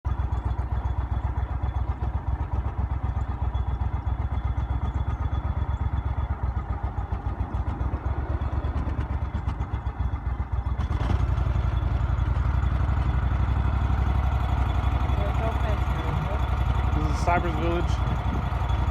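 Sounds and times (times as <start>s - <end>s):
engine rumbling: 0.0s - 18.9s.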